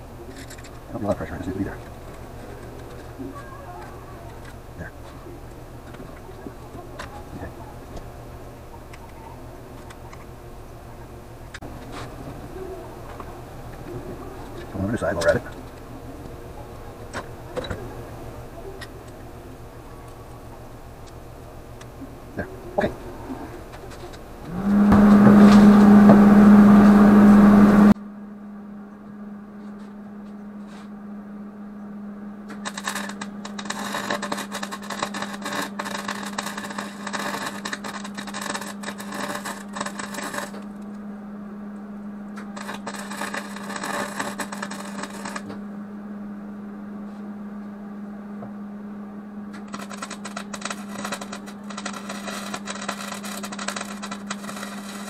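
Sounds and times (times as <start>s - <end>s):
welder arc crackling: 0.0s - 28.0s, 32.5s - 41.0s, 42.4s - 45.6s, 49.5s - 55.0s
steady hum: 0.0s - 55.0s.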